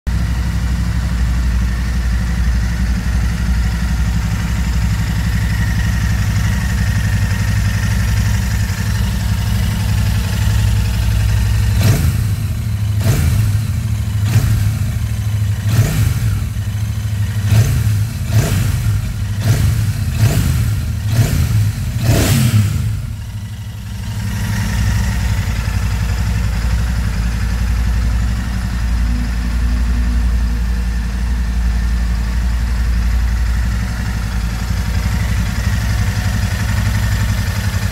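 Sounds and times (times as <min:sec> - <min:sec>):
motorcycle engine idling: 0:00.1 - 0:37.9
engine throttle blips: 0:01.4 - 0:37.9.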